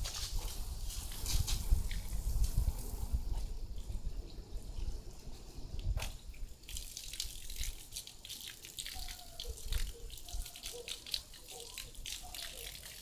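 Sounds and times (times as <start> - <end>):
hose water spraying on car: 0.0 - 13.0.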